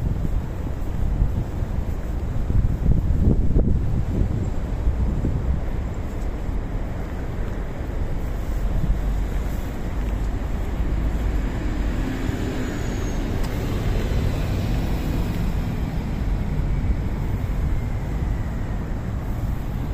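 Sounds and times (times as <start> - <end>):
low outdoor background noise: 0.0 - 19.9.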